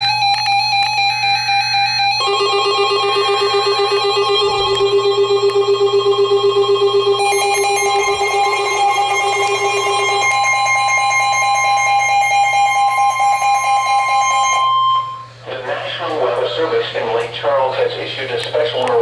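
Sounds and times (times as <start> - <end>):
electronic alert tones: 0.0 - 15.3.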